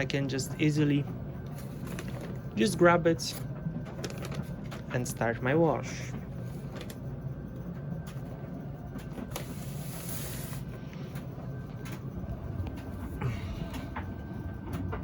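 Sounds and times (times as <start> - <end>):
laundry machine humming: 0.0 - 15.0.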